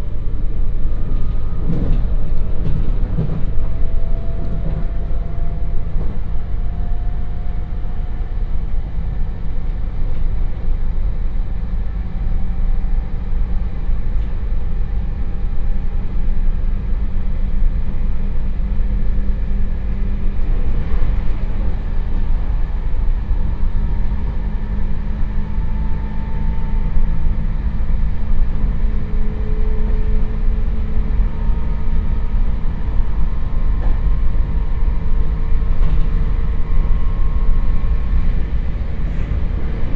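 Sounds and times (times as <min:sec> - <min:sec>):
electric train motor whine: 0:00.8 - 0:39.9.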